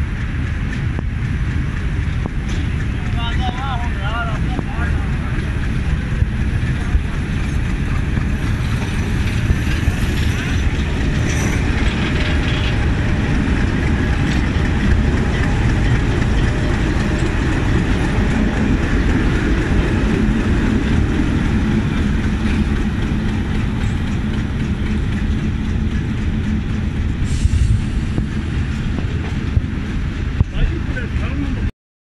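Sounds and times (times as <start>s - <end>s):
diesel locomotive engine rumble: 0.0s - 31.7s
train noise: 0.0s - 31.7s.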